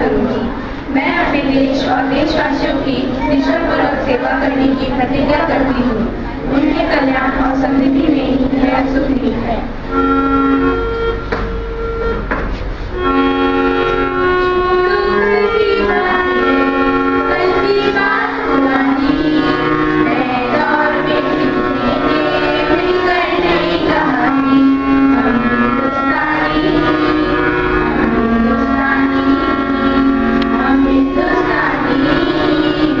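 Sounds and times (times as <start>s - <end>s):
children singing: 0.0s - 10.0s, 13.0s - 33.0s
held instrument notes: 0.0s - 33.0s.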